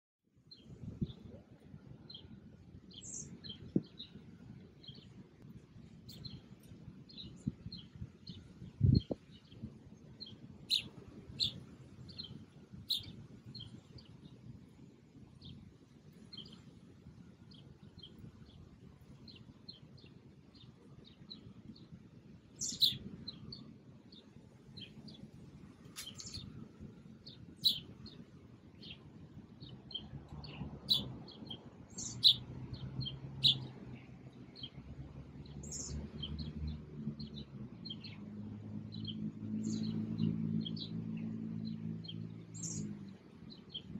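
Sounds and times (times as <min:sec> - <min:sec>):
songbirds chirping: 0:00.3 - 0:43.9.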